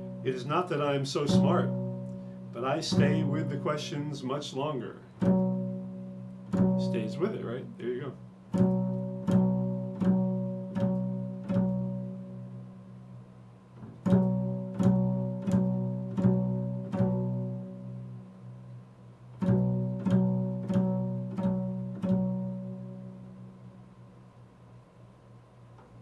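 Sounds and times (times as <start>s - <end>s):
double bass plucked pizzicato: 0.0s - 4.4s, 5.0s - 24.3s.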